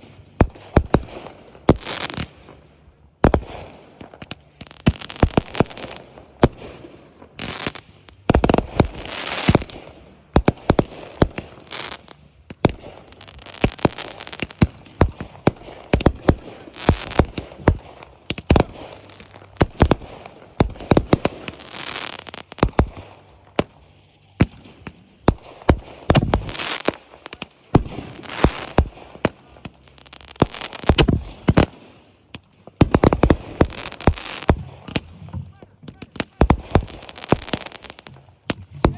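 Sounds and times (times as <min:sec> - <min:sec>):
fireworks bangs: 0:00.0 - 0:02.6, 0:03.2 - 0:38.9
fireworks crackling and hissing: 0:00.0 - 0:38.9.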